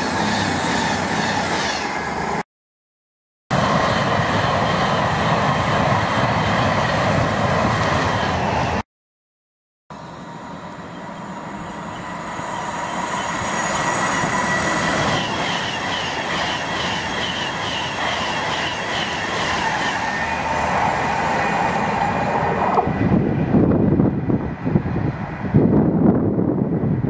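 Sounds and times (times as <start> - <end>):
electric train passing: 0.0 - 2.4, 3.5 - 8.8, 9.9 - 27.0.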